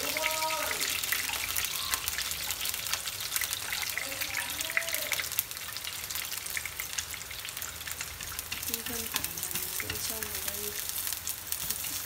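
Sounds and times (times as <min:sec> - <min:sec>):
garlic sizzling in a pan: 0:00.0 - 0:12.0.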